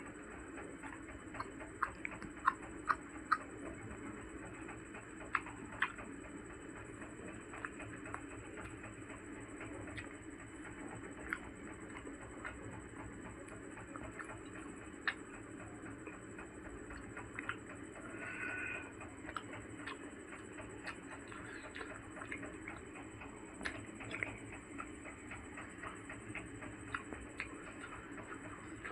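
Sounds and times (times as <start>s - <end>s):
faint steady hum: 0.0s - 28.9s
mouth chewing sounds: 0.1s - 28.9s.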